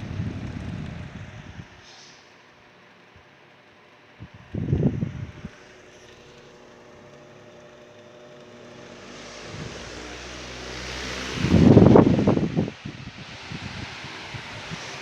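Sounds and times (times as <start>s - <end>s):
fan airflow buffeting microphone: 0.0s - 15.0s
fan motor hum: 0.0s - 15.0s.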